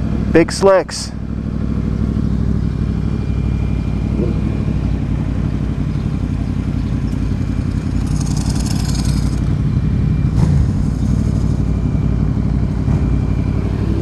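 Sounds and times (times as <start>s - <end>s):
motorbike engine running: 1.1s - 14.0s.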